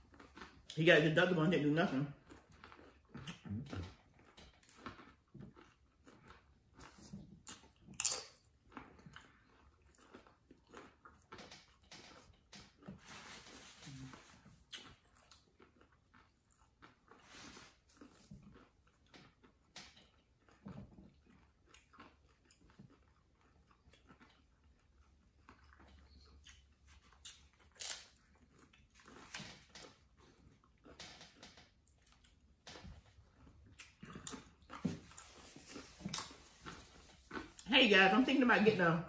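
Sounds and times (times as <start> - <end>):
chewing and crunching tostadas: 0.0 - 39.0.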